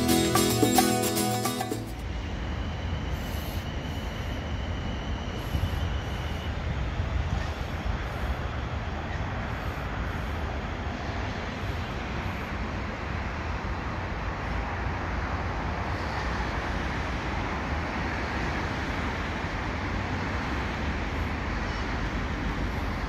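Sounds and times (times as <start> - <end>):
faint high whine: 0.0 - 23.0
train wheels rumbling on rail: 1.7 - 23.0.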